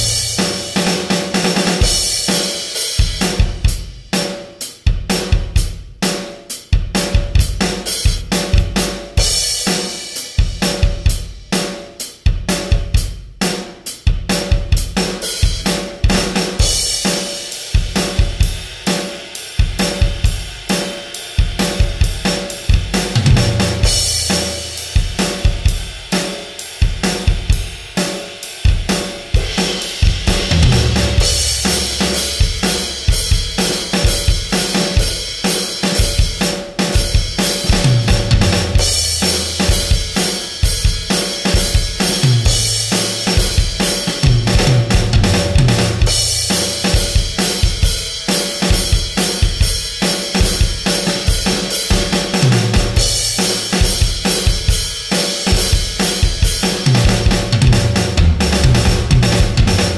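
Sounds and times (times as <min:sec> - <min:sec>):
fast drum kit beat: 0:00.0 - 0:59.9.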